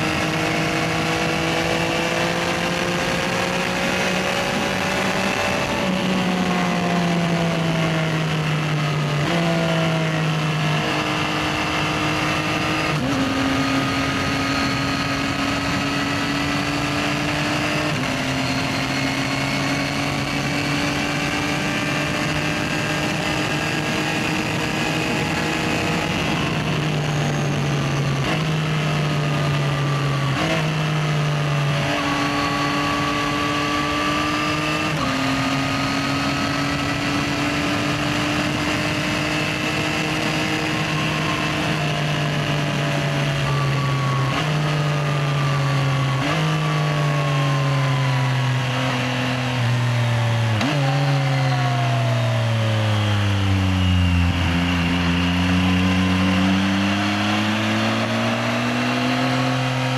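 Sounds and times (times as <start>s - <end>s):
motorcycle engine revving through gears: 0.0s - 59.9s.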